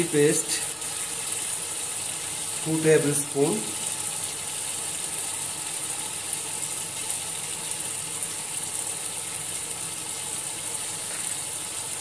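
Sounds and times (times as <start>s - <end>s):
sauce simmering in a pot: 0.0s - 12.0s.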